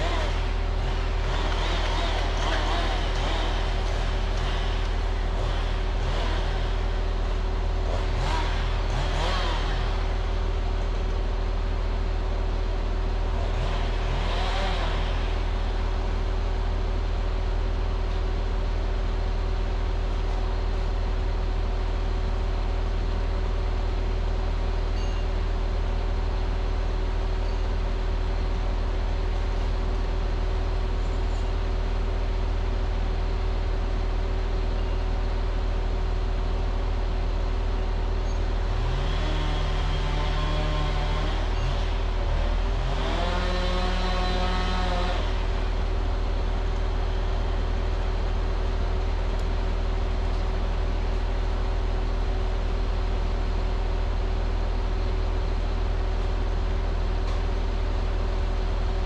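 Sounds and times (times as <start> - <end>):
constant hum: 0.0 - 59.0
diesel engine running: 0.0 - 59.0.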